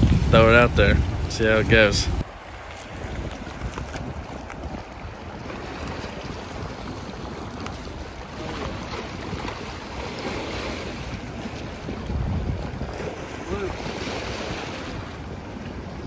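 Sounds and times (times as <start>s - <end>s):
river water rushing: 0.0s - 15.6s
wind noise on microphone: 0.0s - 16.0s.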